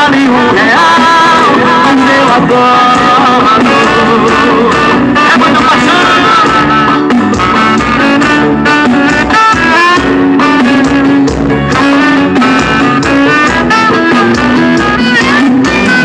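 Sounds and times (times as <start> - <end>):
loud guitar song through car speakers: 0.0 - 16.0.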